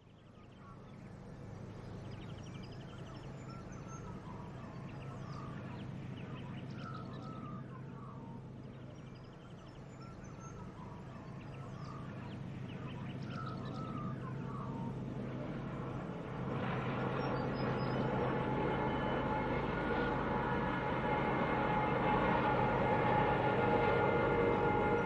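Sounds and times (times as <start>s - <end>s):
birds chirping: 0.0s - 25.0s
diesel locomotive engine droning: 0.0s - 25.0s.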